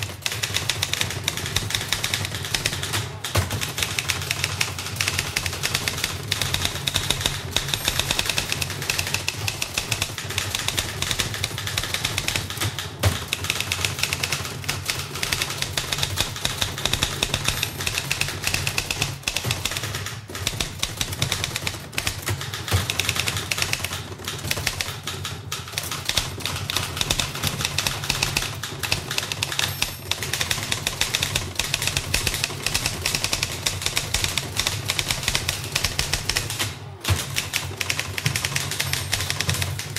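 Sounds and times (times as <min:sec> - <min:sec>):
typewriter key clatter: 0:00.0 - 0:39.9.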